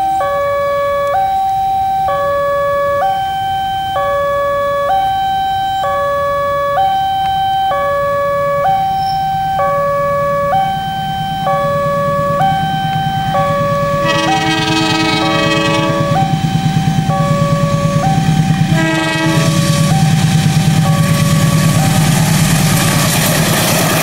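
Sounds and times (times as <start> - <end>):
two-tone crossing alarm: 0.0 - 23.0
low locomotive rumble: 0.0 - 24.0.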